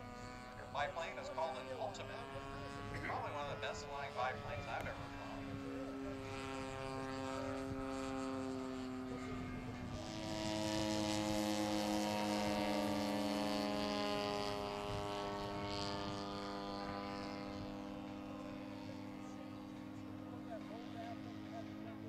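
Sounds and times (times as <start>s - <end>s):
model airplane engines droning: 0.0s - 22.0s.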